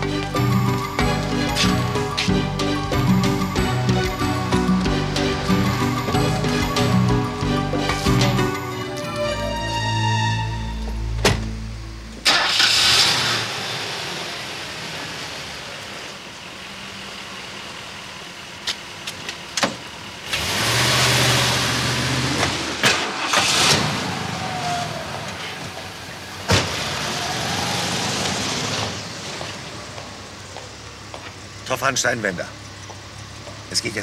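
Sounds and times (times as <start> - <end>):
car engine starting and running: 0.0 - 34.0.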